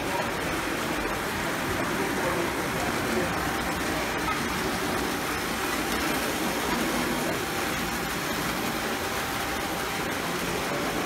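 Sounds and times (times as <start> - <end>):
model trains whirring on track: 0.0 - 11.0.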